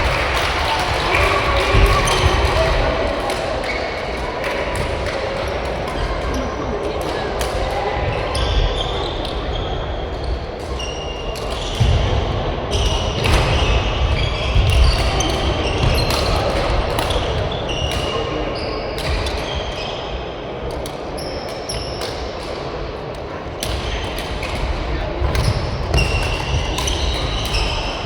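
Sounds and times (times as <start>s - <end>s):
echoing hall noise: 0.0s - 28.0s.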